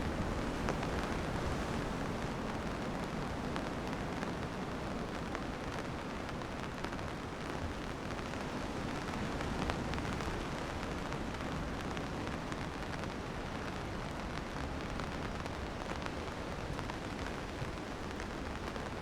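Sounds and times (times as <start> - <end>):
raindrops ticking on surfaces: 0.0 - 19.0
steady rain falling: 0.0 - 19.0.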